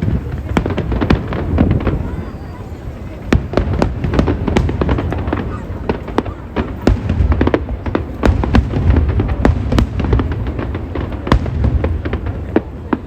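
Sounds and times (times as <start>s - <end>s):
fireworks cracks and pops: 0.0s - 13.0s.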